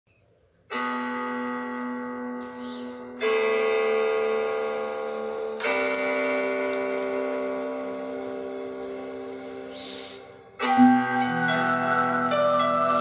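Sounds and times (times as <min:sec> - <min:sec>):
sustained instrumental chords: 0:00.7 - 0:13.0.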